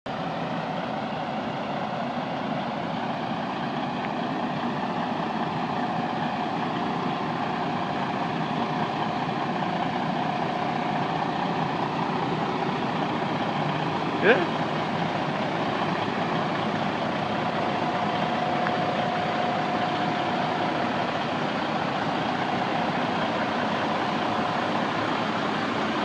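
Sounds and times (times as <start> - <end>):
diesel truck engine idling: 0.1 - 26.0.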